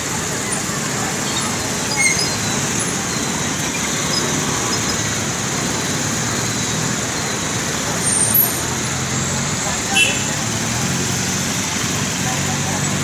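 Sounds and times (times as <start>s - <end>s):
vehicles driving through water: 0.0s - 13.0s.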